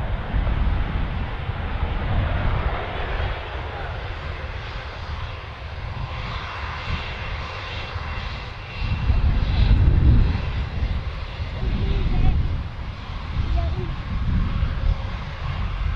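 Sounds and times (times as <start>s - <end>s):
airliner engines roaring: 0.0s - 15.9s
heavy low rumble: 0.0s - 15.9s.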